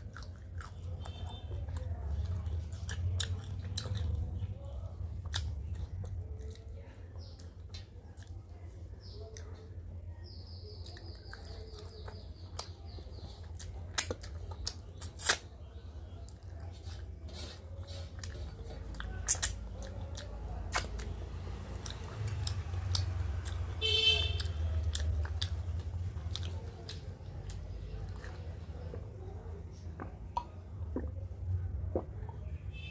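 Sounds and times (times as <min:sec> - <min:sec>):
sharp wet clicks: 0:00.0 - 0:16.7, 0:18.2 - 0:32.6
close chewing of food: 0:00.0 - 0:32.6.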